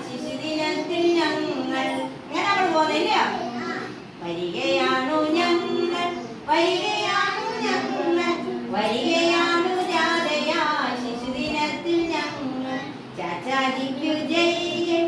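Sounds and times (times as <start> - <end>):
young children singing: 0.0 - 15.0.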